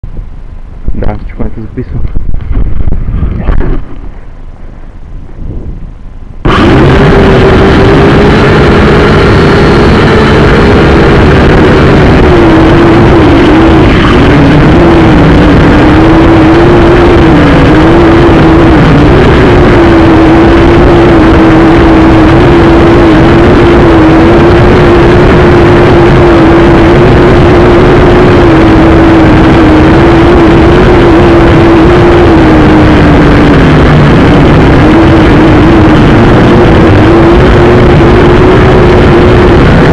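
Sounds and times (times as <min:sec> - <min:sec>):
quadcopter propellers whining: 0:06.4 - 0:39.9.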